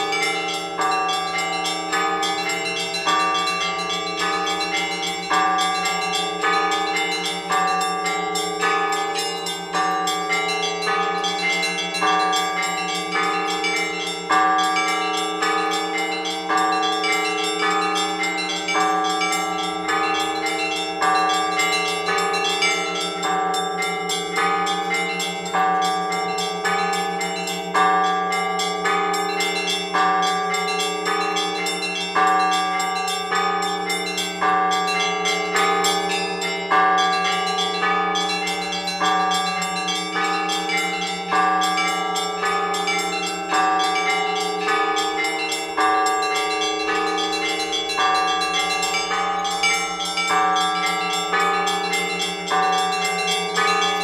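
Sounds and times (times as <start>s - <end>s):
low hum of large bells: 0.0s - 54.0s
small church bells ringing: 0.0s - 54.0s.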